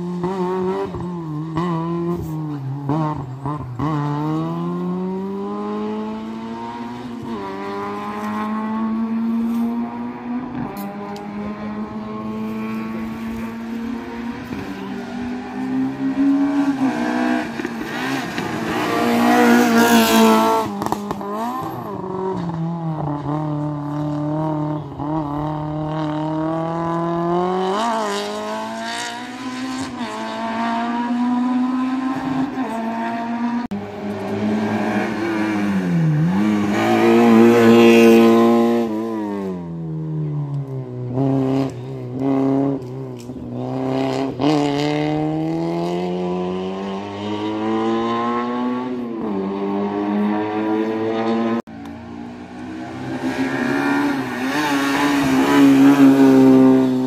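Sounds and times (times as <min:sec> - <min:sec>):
racing car engine accelerating: 0:00.0 - 0:57.0.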